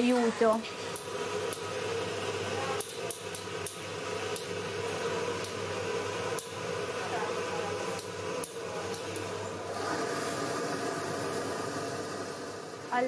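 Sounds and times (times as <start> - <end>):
workroom hum: 0.0 - 13.0.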